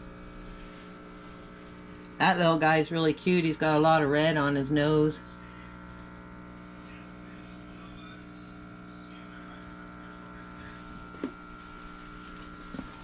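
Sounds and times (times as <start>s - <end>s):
air stone water bubbling: 0.0s - 13.0s
steady hum: 0.0s - 13.0s.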